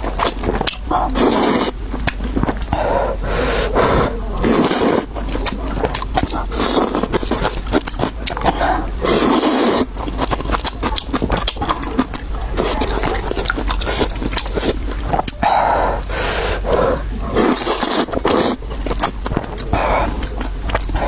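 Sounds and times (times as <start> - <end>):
wet chewing and mouth smacks: 0.0 - 3.2, 4.3 - 21.0
loud slurps: 0.2 - 1.9, 3.0 - 10.4, 11.2 - 21.0.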